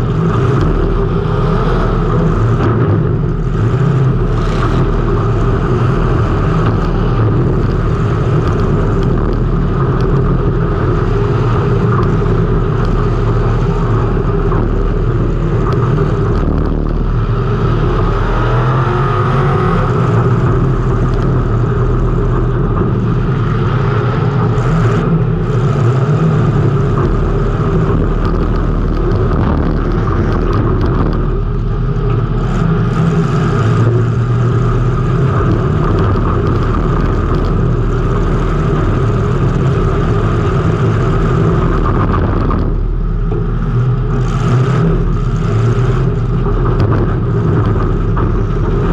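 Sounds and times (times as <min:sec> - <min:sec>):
race car engine running hard: 0:00.0 - 0:48.9.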